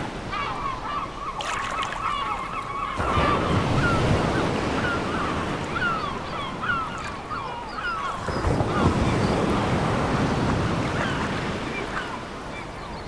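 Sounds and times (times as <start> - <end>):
seagulls calling: 0.1 - 13.0.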